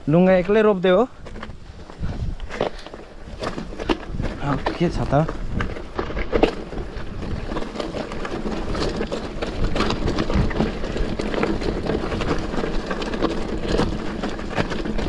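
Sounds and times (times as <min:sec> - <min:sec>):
bike rattling: 0:00.0 - 0:15.0
tyres crunching over stones: 0:00.0 - 0:15.0
wind on microphone: 0:01.1 - 0:15.0.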